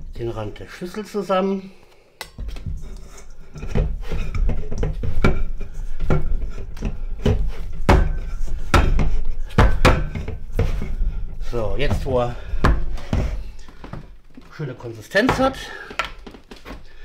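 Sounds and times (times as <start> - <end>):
hands kneading dough: 2.5 - 17.0.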